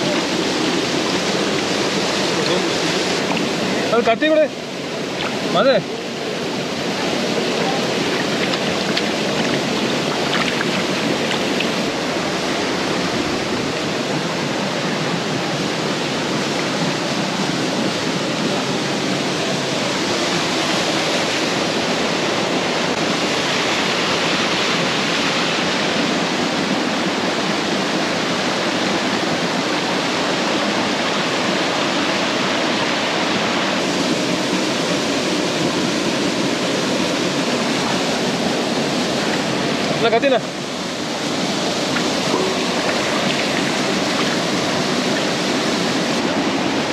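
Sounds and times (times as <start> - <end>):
small water cascade: 0.0 - 46.9
stream running over rocks: 0.0 - 46.9.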